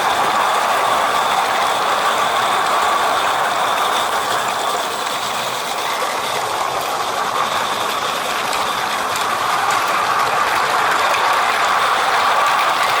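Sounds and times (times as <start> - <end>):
steam locomotive clatter and hiss: 0.0 - 13.0.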